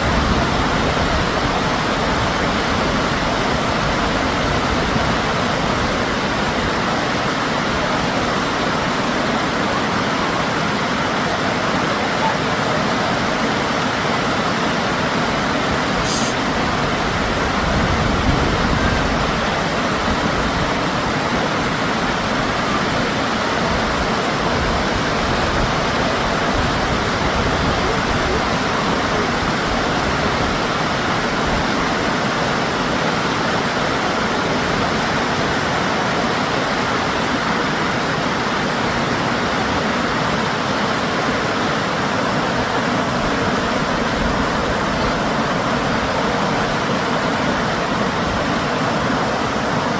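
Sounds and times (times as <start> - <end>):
river water rushing over rapids: 0.0 - 49.9.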